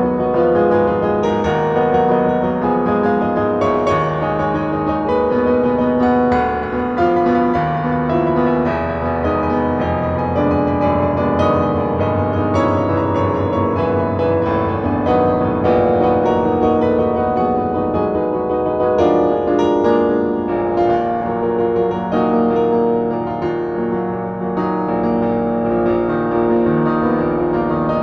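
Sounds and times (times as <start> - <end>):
solo piano classical piece: 0.0 - 28.0.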